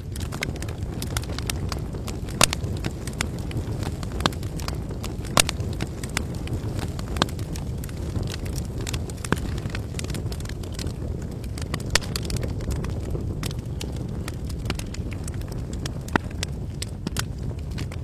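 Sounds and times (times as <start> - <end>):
loud pops from burning wood: 0.0 - 18.0
wood fire crackling: 0.0 - 18.0.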